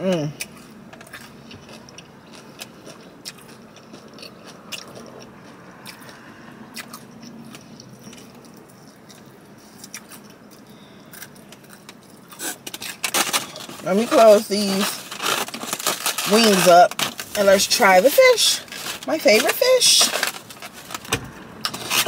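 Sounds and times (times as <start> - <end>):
small crunches: 0.0 - 22.0
chewing fried chicken: 0.2 - 20.8.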